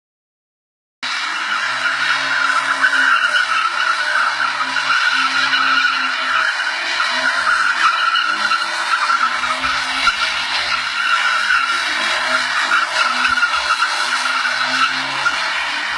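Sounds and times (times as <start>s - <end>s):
car engine running hard: 1.0s - 15.9s
tyres squealing: 1.4s - 15.9s.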